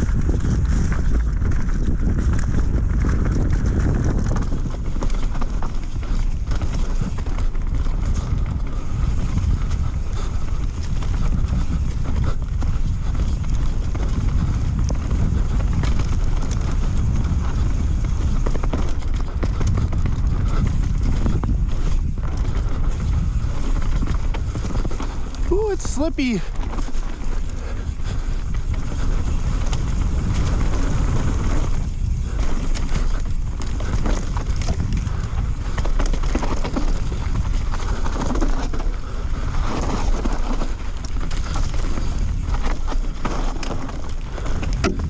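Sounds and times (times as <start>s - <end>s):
bike chain and frame rattling: 0.0s - 45.0s
tyres crunching through dirt: 0.0s - 45.0s.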